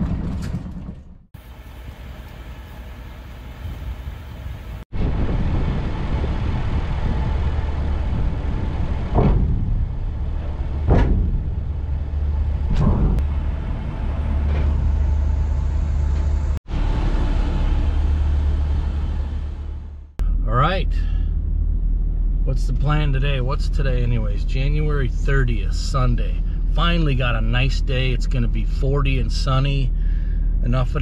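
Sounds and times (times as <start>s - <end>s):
vehicle rumbling on road: 0.0s - 31.0s.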